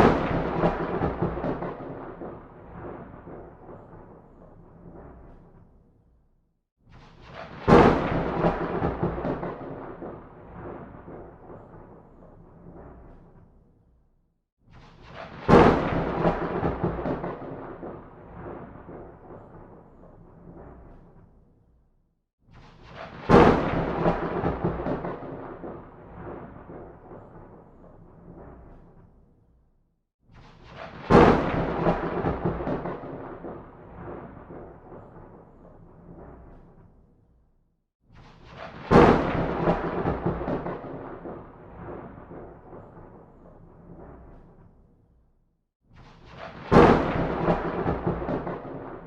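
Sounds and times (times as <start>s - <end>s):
thunder rumbling and cracking: 0.0s - 5.7s, 7.2s - 13.6s, 15.0s - 21.4s, 22.8s - 29.2s, 30.6s - 36.9s, 38.4s - 44.8s, 46.2s - 49.0s.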